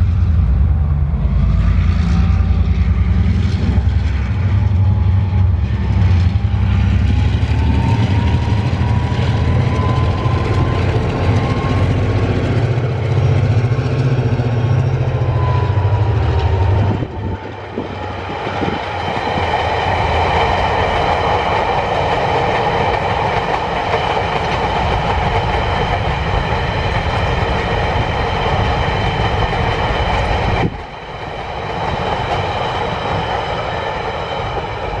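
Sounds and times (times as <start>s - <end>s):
locomotive engine rumble and whine: 0.0s - 35.0s.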